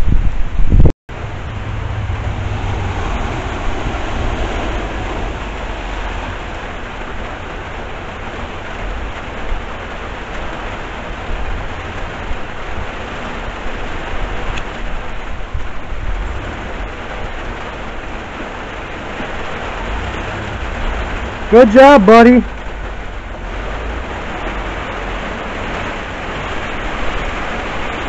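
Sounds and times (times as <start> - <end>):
wind rumbling on microphone: 0.0 - 21.6, 22.4 - 28.0
heavy rain: 0.0 - 28.0
car tyres splashing through water: 1.1 - 28.0.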